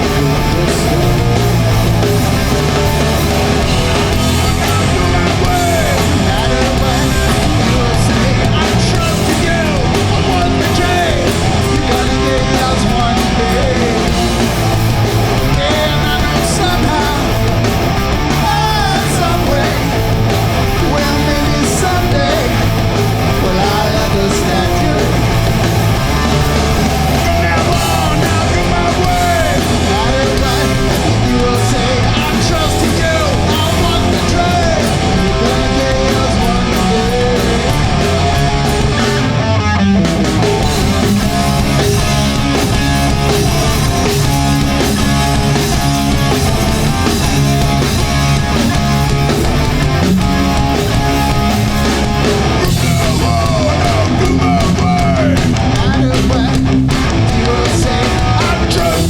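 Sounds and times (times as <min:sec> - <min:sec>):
person singing: 0:00.0 - 0:17.7, 0:18.3 - 0:39.4, 0:40.4 - 0:59.0
bass: 0:00.0 - 0:59.0
distorted electric guitars: 0:00.0 - 0:59.0
drums: 0:00.0 - 0:59.0.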